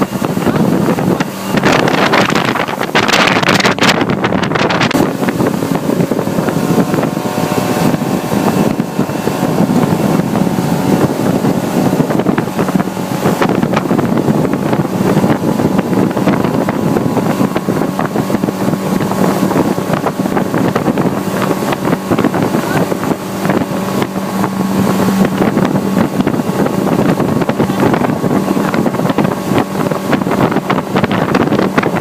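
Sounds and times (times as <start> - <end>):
motorboat engine running: 0.0 - 32.0
water rushing: 0.0 - 32.0
wind buffeting microphone: 0.0 - 32.0.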